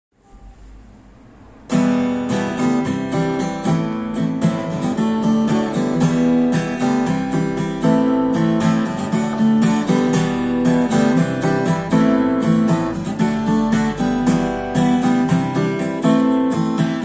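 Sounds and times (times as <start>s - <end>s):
acoustic guitar strumming chords: 0.2s - 17.0s.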